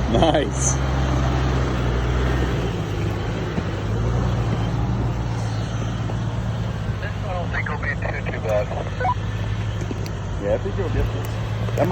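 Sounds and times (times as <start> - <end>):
vehicle engine at low revs: 0.0 - 11.9.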